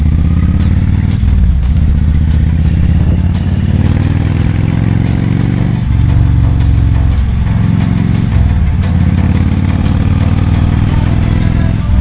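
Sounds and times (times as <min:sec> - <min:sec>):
motorcycle engine running deep: 0:00.0 - 0:12.0.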